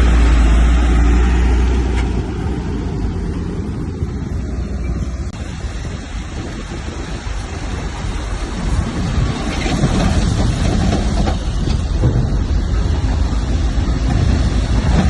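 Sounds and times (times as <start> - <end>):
diesel earthmoving machinery running: 0.0 - 15.0.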